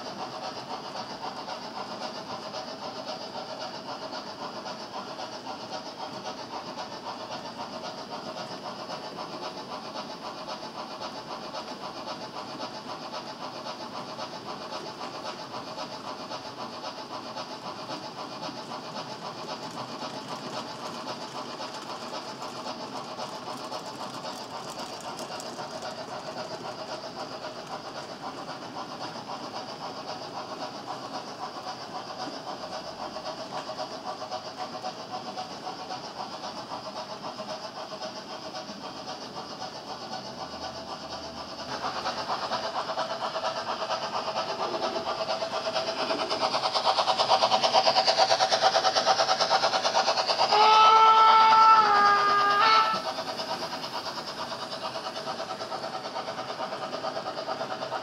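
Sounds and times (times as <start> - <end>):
model train wheels clattering: 0.0 - 58.0.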